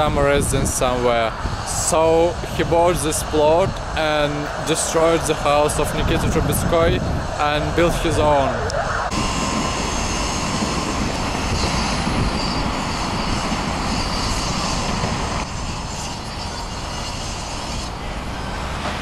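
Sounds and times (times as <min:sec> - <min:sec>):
heavy traffic rumbling: 0:00.0 - 0:19.0.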